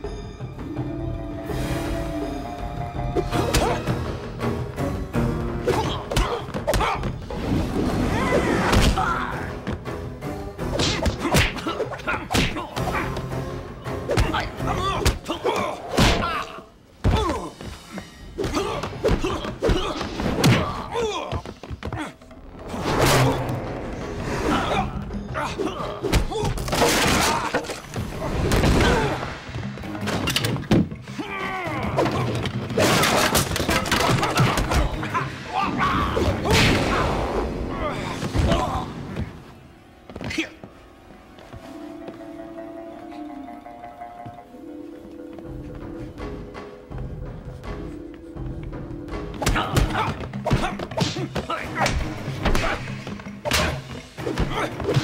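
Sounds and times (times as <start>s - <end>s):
dramatic soundtrack music: 0.0s - 55.0s.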